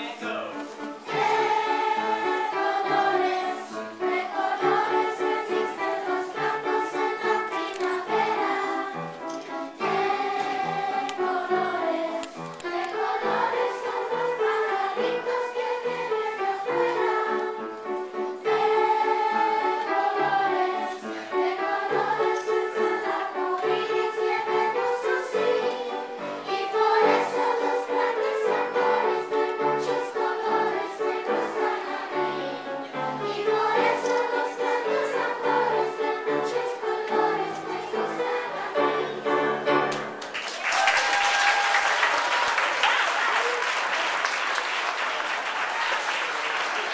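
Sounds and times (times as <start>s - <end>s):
children singing: 0.8s - 40.2s.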